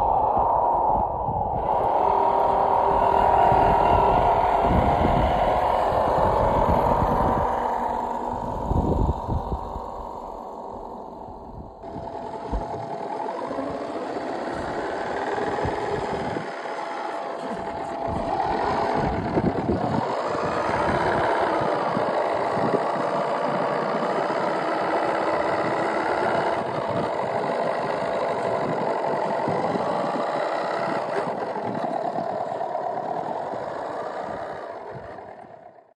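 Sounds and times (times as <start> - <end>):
simulated engine sound: 0.0 - 36.0
toy car motor and gears whining: 1.6 - 35.9.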